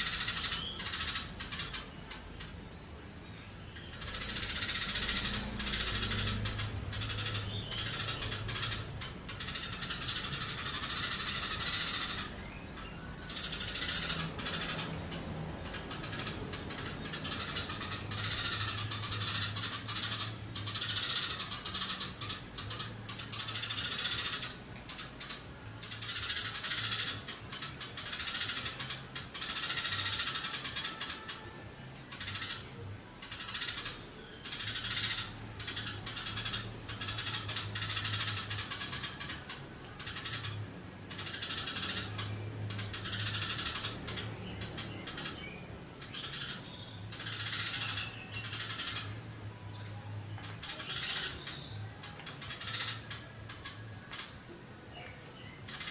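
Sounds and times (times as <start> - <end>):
sparrow chattering: 0.0 - 2.6, 3.6 - 49.4, 50.4 - 54.5, 55.6 - 55.9.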